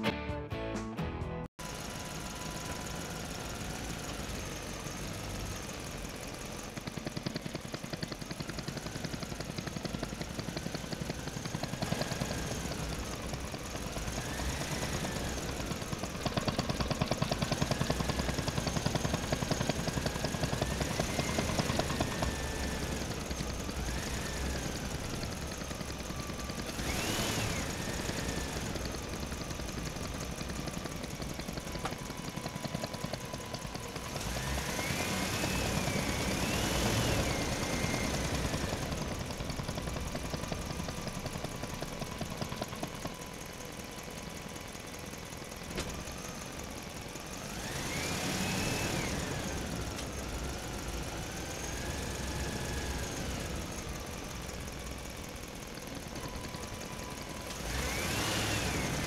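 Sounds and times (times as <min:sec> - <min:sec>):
engine puttering and revving: 0:01.6 - 0:59.0.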